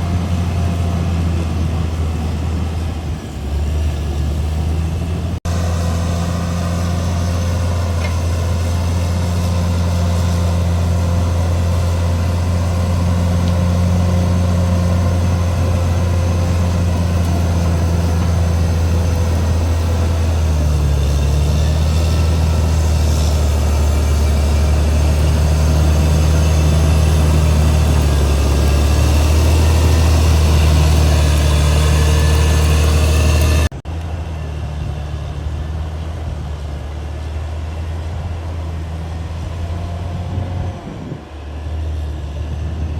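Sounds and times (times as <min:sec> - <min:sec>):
bulldozer diesel engine droning: 0:00.0 - 0:42.9.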